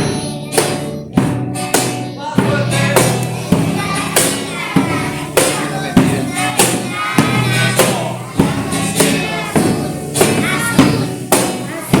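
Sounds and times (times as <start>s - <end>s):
voices singing: 0.0s - 1.2s, 1.8s - 12.0s
sharp percussion strikes: 0.0s - 12.0s.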